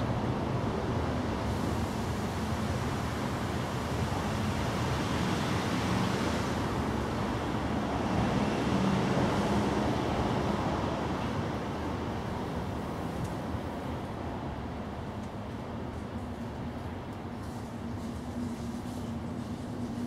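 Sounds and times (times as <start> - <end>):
distant road traffic: 0.7 - 20.0.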